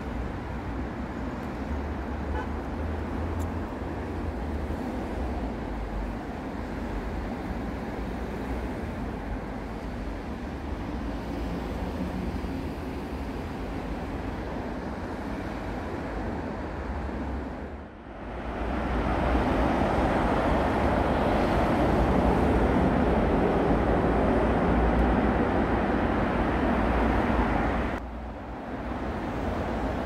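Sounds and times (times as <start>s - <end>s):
cars passing on road: 0.0s - 30.0s.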